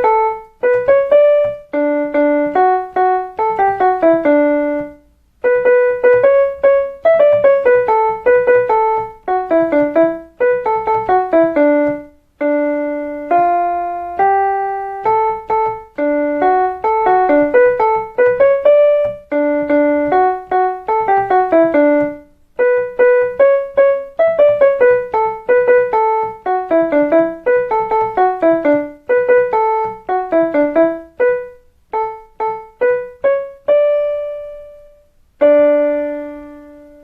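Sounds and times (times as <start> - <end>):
electronic keyboard melody: 0.0 - 37.0.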